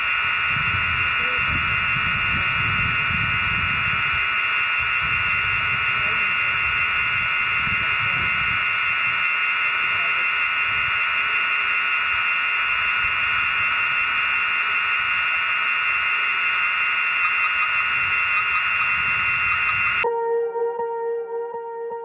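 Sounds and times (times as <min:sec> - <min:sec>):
wind rumbling on microphone: 0:00.0 - 0:20.1
steady high whine: 0:00.0 - 0:22.0.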